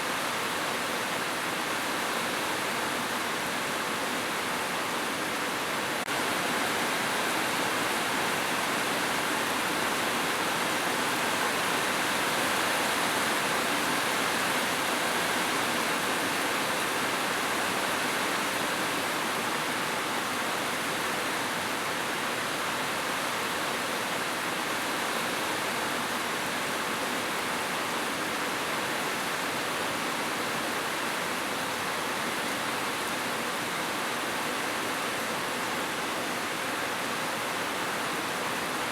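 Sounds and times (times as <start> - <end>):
rushing water hiss: 0.0 - 38.9.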